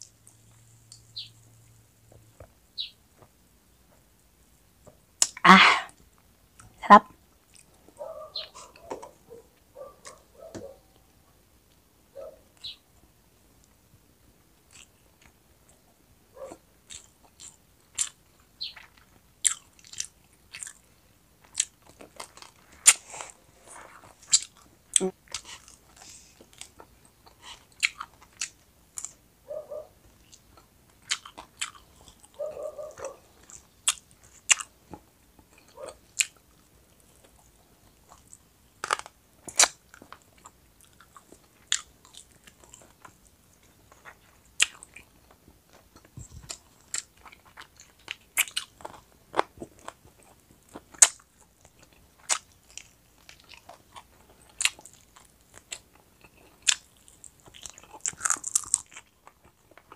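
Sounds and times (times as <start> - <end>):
chewing crunchy food: 7.4 - 11.8, 14.6 - 59.9.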